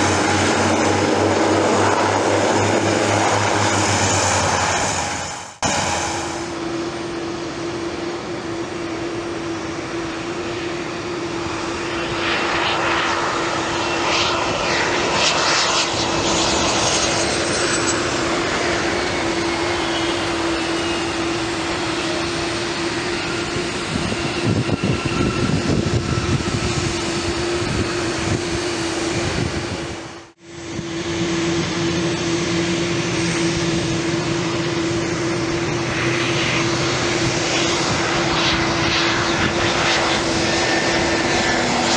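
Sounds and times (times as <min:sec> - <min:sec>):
jet engines rushing and whining: 0:00.0 - 0:41.9.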